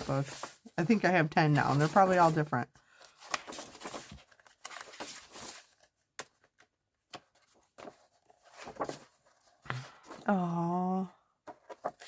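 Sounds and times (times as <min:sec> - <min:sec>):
book pages rustling: 0:00.0 - 0:10.2, 0:11.4 - 0:12.0.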